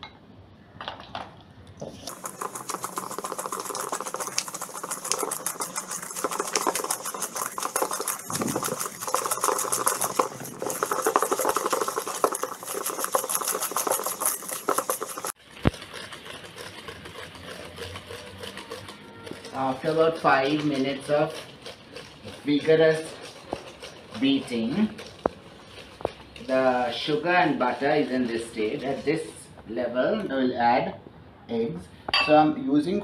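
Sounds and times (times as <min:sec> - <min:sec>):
whisk clicking and scraping in metal bowl: 0:02.0 - 0:30.3.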